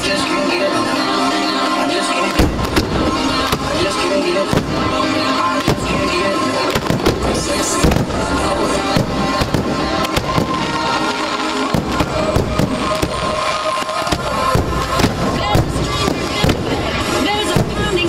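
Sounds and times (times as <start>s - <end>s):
music: 0.0s - 18.0s
firework shells bursting: 2.3s - 10.9s, 11.7s - 18.0s.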